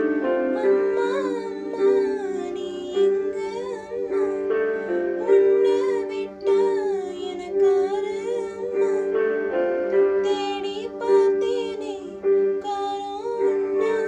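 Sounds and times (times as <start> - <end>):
slow sentimental film music: 0.0 - 14.0.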